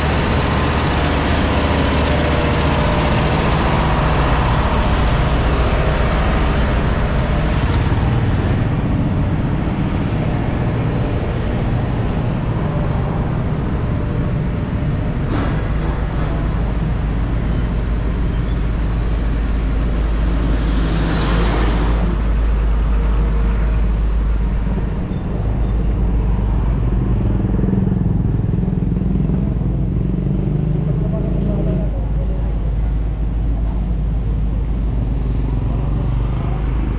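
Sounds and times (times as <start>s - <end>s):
traffic rumble: 0.0s - 36.9s.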